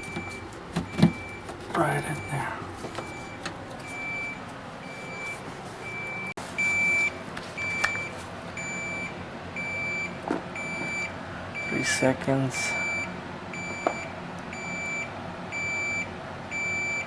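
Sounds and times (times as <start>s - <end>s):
refrigerator high beep: 0.0s - 17.0s.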